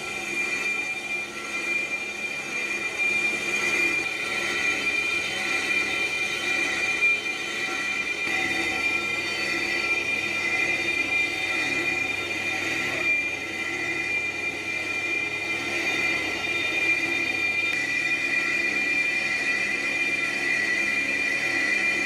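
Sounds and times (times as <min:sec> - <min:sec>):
lathe cutting tool screeching: 0:00.0 - 0:22.0
lathe running: 0:00.0 - 0:22.0.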